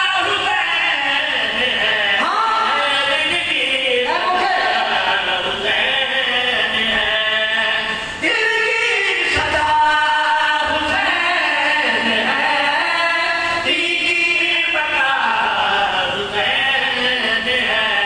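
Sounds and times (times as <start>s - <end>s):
man chanting melodically: 0.0s - 18.0s.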